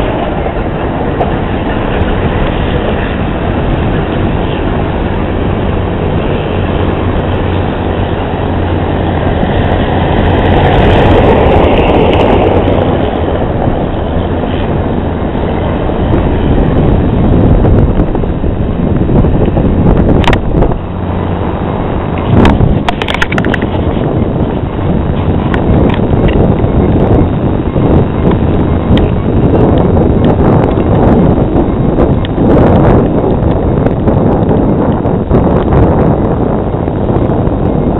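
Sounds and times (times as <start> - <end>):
airliner engines roaring: 0.0 - 37.9
low rumble: 0.0 - 37.9.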